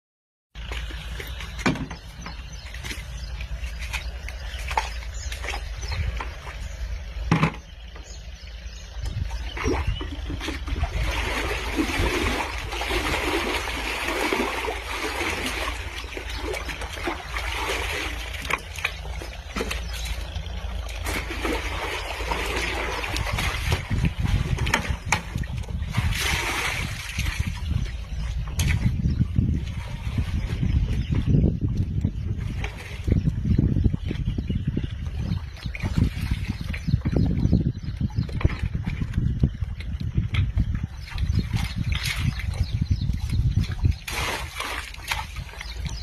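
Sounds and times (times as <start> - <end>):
water splashing and pouring: 0.6 - 46.0.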